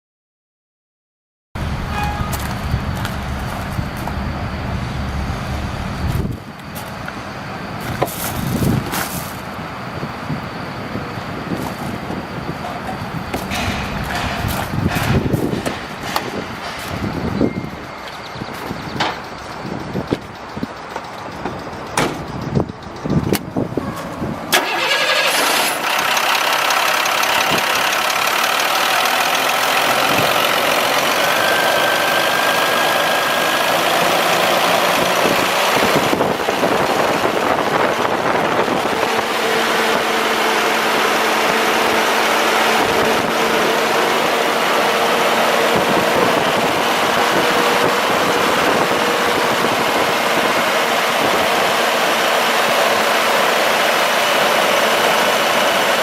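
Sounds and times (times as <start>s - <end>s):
diesel engine starting and idling: 1.6s - 56.0s.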